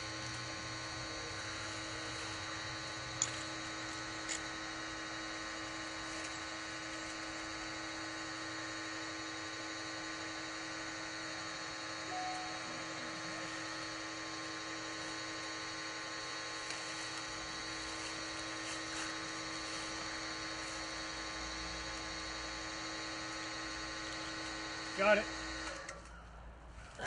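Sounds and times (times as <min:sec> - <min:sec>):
pipe-pulling machine humming: 0:00.0 - 0:27.0.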